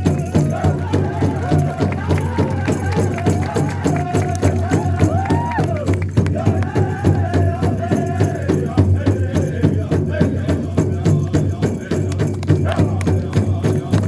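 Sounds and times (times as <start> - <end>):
fast beat on large drum: 0.0 - 14.0
people singing: 0.0 - 14.0
rattling percussion: 0.0 - 14.0.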